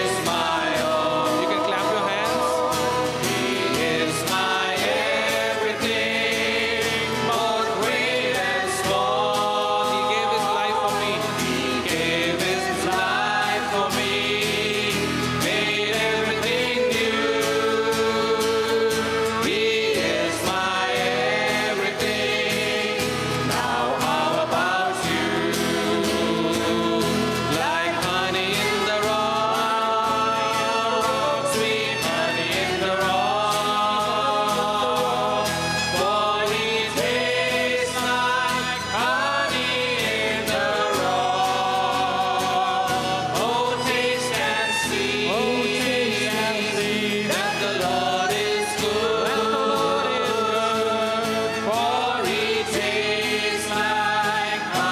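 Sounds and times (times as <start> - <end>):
group of people singing: 0.0 - 54.9
guitar: 0.0 - 54.9
keyboard accompaniment: 0.0 - 54.9.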